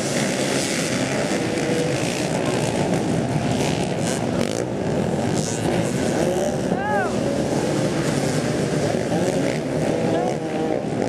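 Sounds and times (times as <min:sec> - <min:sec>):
dirt bikes revving: 0:00.0 - 0:11.0.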